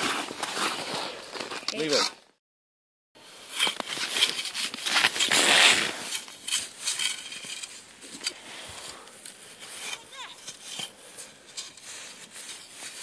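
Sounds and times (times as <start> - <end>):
snow crunching and scraping: 0.0 - 2.3, 3.2 - 13.0.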